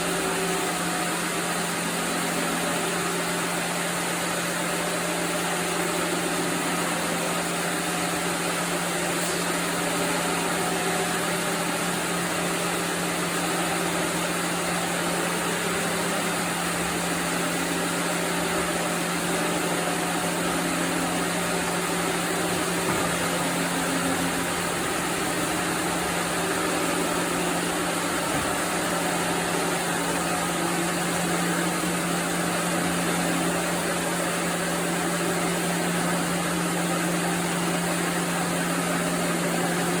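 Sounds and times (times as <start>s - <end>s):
sawmill machinery humming: 0.0s - 40.0s.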